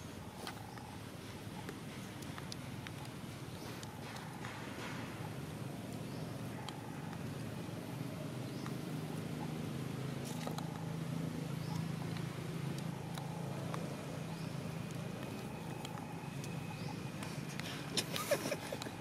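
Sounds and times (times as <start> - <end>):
faint chirps and clicks: 0.0 - 19.0
low engine drone: 0.0 - 19.0.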